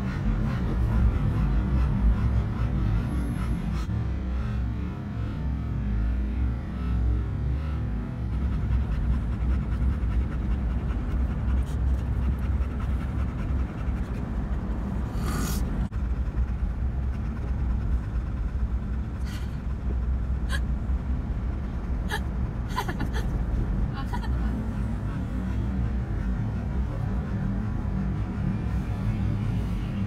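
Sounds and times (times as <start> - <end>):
dog panting: 0.0 - 3.9, 8.0 - 30.0
truck rumbling on road: 0.0 - 30.0.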